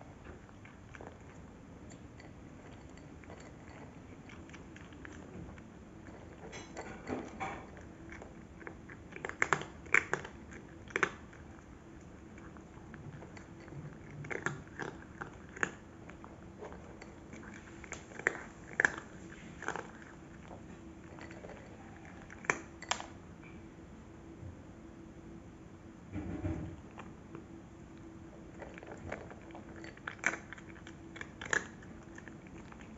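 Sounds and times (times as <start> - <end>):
cat crunching dry kibble: 0.0 - 23.2, 28.5 - 32.9.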